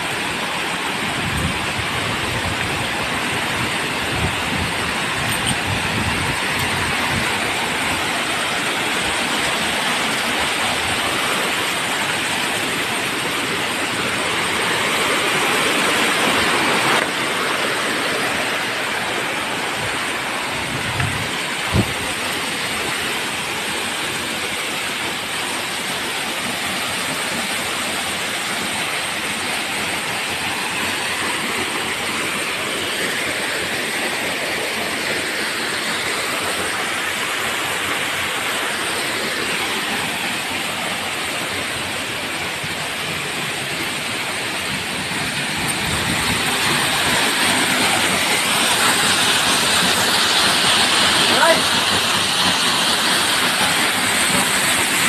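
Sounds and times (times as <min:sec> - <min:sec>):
waterfall rushing into pool: 0:00.0 - 0:55.0.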